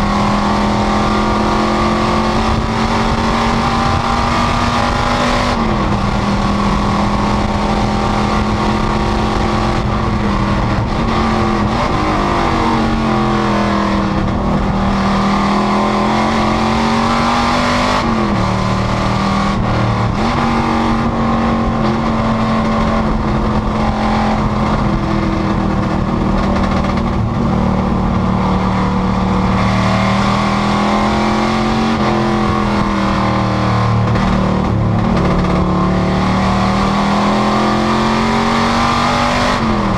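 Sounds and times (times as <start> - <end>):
race car engine shifting gears: 0.0 - 39.9.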